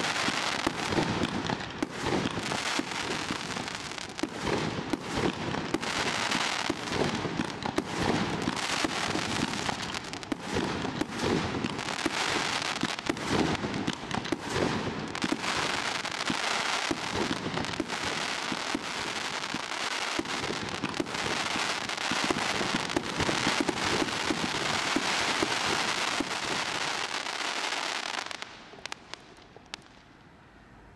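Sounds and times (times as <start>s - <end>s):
firework cake crackling and firing: 0.0s - 30.1s.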